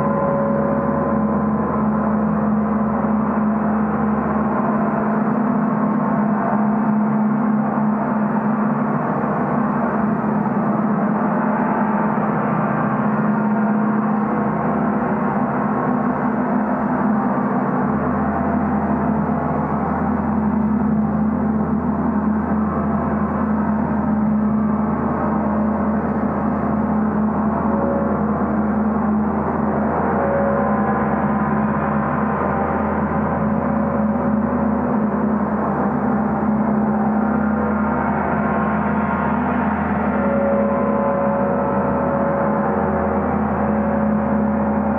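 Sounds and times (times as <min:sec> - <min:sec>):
deeper low tone: 0:00.0 - 0:44.9
gong played continuously: 0:00.0 - 0:44.9.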